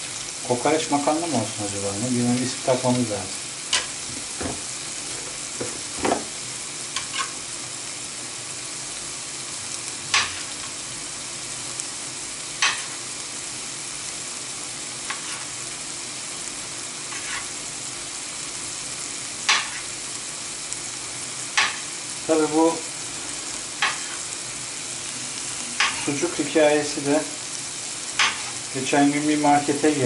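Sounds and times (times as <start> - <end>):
sausage sizzling in pan: 0.0 - 30.0.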